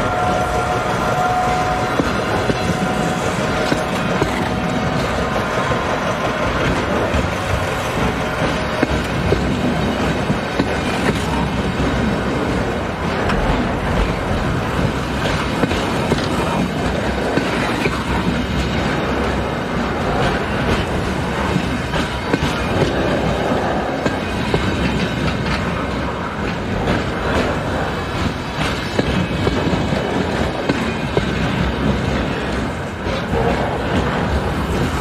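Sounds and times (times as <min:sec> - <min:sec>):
freight train wheels rumbling: 0:00.0 - 0:35.0
wheels clacking over rail joints: 0:00.0 - 0:35.0.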